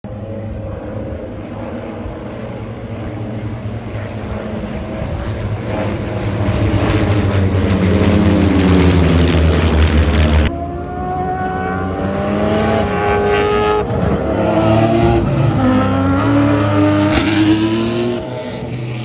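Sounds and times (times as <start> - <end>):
race car engine droning: 0.1 - 19.0.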